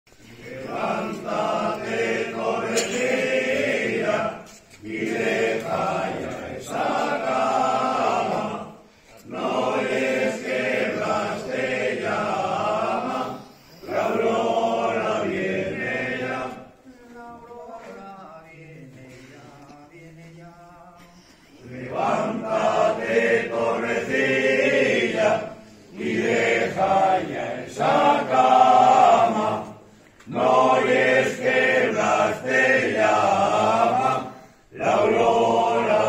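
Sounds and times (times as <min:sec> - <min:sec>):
group of voices singing a hymn: 0:00.1 - 0:36.0.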